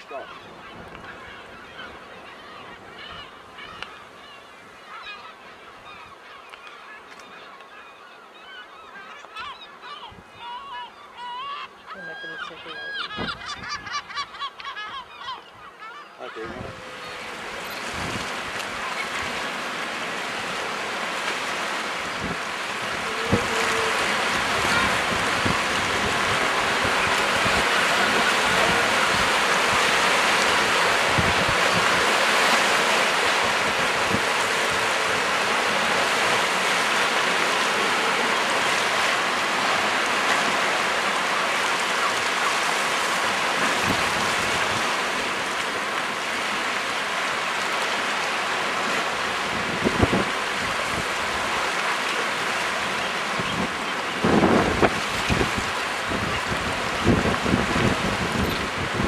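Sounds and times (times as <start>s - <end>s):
surf washing over rocks: 0.0s - 7.3s, 16.2s - 59.0s.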